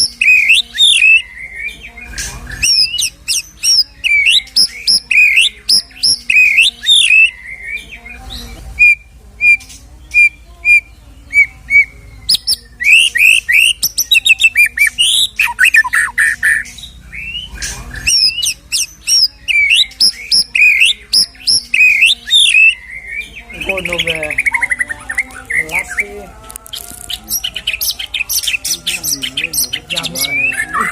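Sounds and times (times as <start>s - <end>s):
bird singing varied song: 0.0s - 30.9s.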